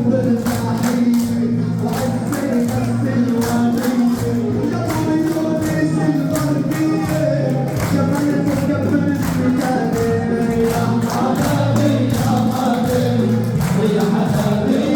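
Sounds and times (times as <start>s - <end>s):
percussion beat: 0.0s - 14.9s
voices singing: 0.0s - 14.9s.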